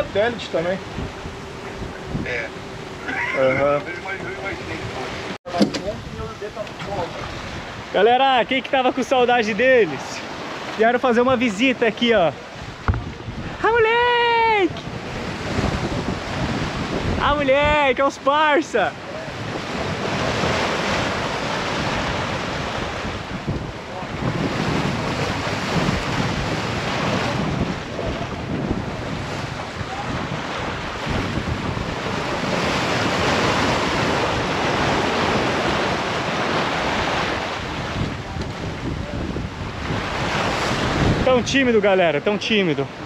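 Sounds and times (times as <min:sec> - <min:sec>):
wind buffeting microphone: 0:00.0 - 0:08.0, 0:12.1 - 0:18.2, 0:18.9 - 0:42.0
ocean water rushing: 0:00.0 - 0:43.0.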